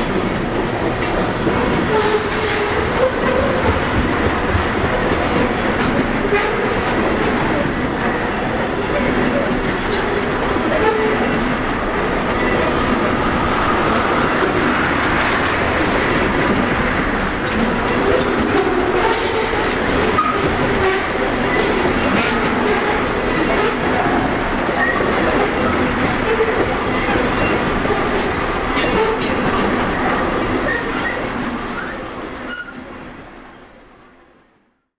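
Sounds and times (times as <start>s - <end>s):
train wheels clicking over rail joints: 0.9s - 32.9s.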